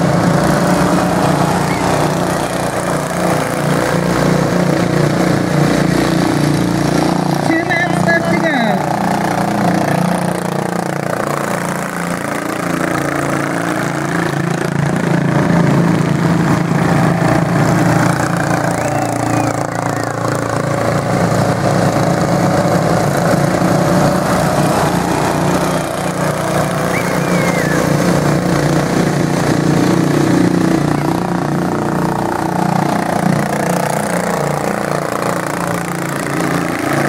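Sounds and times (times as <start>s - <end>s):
lawn mower engines racing: 0.0s - 37.0s.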